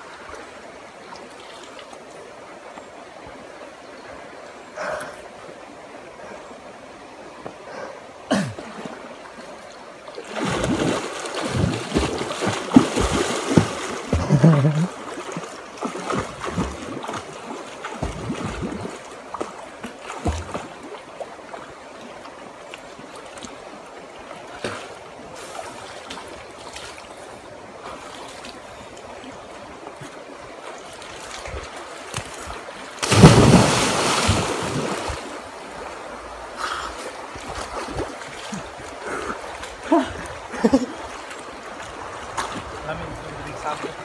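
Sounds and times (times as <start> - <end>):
river water flowing: 0.0 - 44.0
small water splashes: 8.6 - 44.0.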